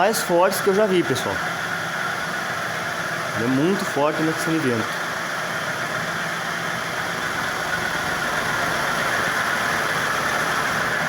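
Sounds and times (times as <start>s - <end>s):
ceiling fan running: 0.0s - 11.0s.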